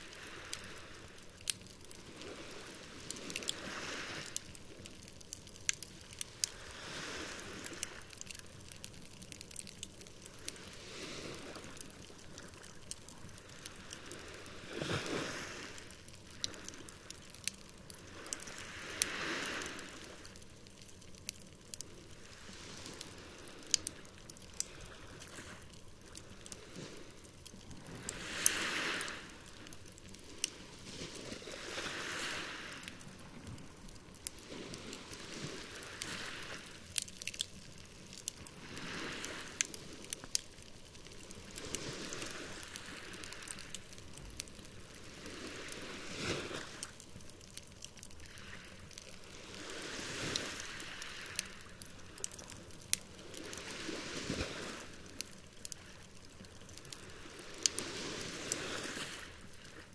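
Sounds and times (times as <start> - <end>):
campfire crackling: 0.0 - 59.9
small waves washing onto shore: 0.0 - 59.9.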